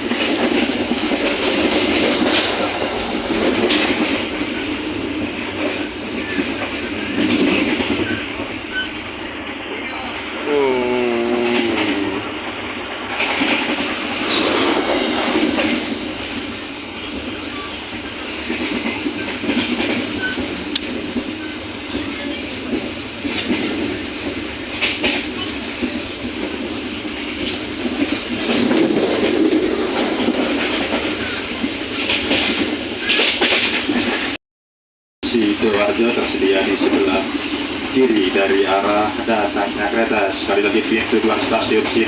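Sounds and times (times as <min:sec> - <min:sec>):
train wheels on track: 0:00.0 - 0:34.4, 0:35.2 - 0:42.0.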